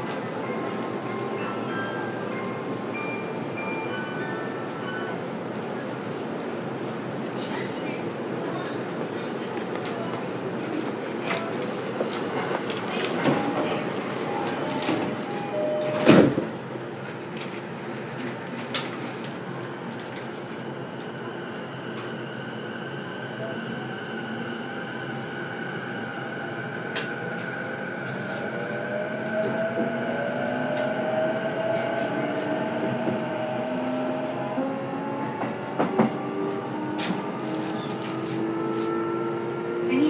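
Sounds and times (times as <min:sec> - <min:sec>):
electric train interior hum: 0:00.0 - 0:40.0.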